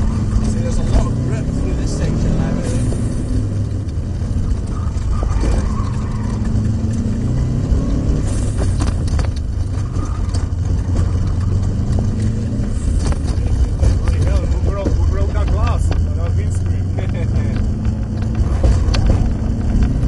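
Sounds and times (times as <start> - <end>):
rally car engine running hard: 0.0 - 20.0
road noise: 0.0 - 20.0.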